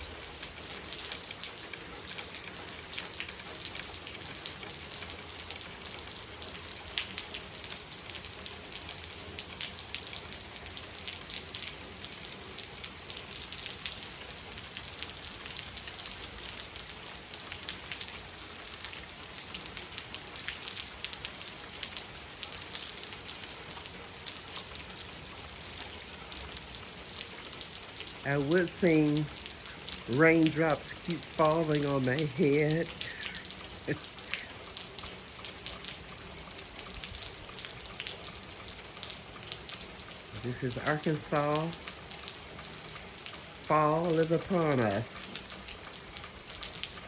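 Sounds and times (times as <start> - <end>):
raindrop ticks: 0.0 - 47.0
steady rain hiss: 0.0 - 47.0.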